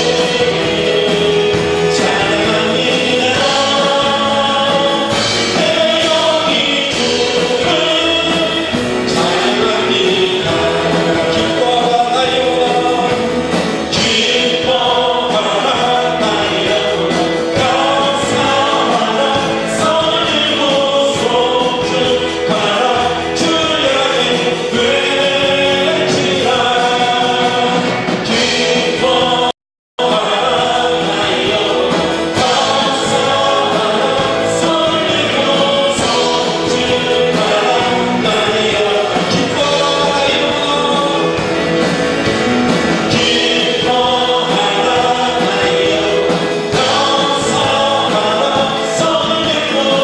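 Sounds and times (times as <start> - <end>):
accompanying music: 0.0 - 50.0
congregation singing: 0.0 - 50.0.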